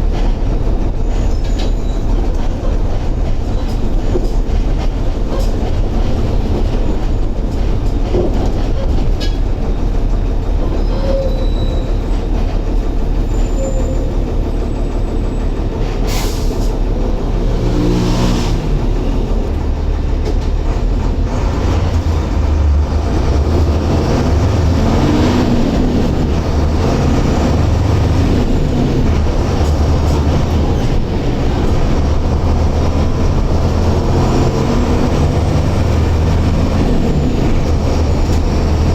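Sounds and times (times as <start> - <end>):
bus diesel engine rumbling: 0.0 - 38.9
vehicle rattling and clatter: 0.0 - 38.9.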